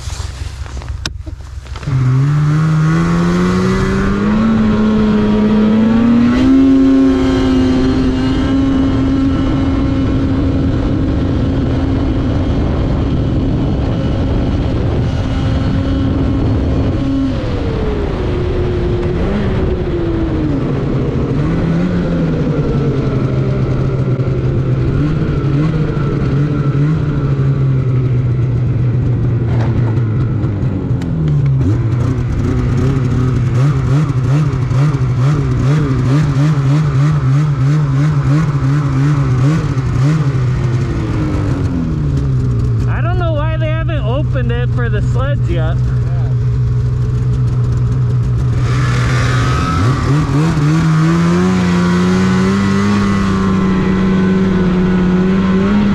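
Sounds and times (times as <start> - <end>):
snowmobile engine revving: 0.0 - 28.6, 30.5 - 55.9.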